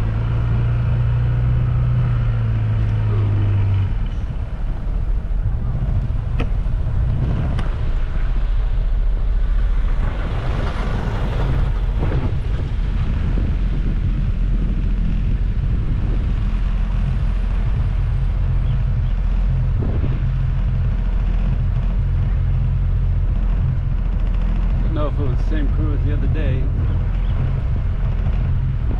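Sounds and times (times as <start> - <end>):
vehicle engine and road noise: 0.0 - 28.9.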